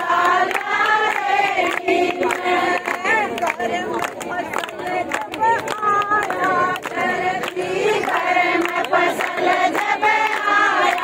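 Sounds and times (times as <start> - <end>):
crowd clapping in time: 0.0 - 11.0
women singing together: 0.0 - 11.0.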